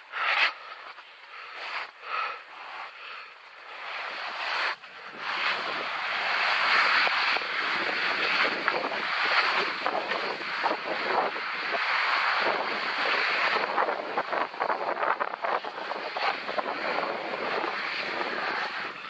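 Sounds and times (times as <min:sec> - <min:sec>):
skis scraping on snow: 0:00.0 - 0:19.0
wind on microphone: 0:03.7 - 0:19.0.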